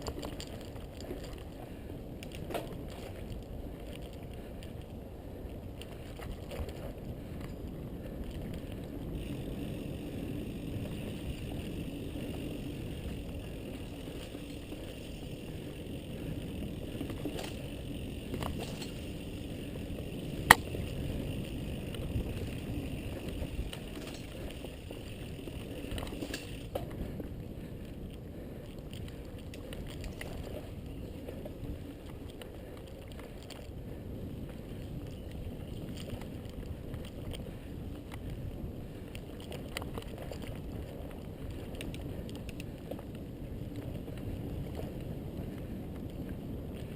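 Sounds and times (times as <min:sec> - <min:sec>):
bike rattling: 0:00.0 - 0:46.9
bike tyres rumbling on trail: 0:00.0 - 0:46.9.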